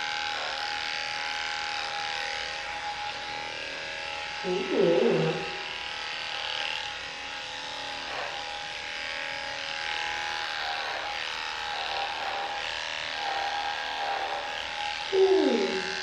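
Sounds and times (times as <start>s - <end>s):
electric hair clippers humming: 0.0s - 16.0s.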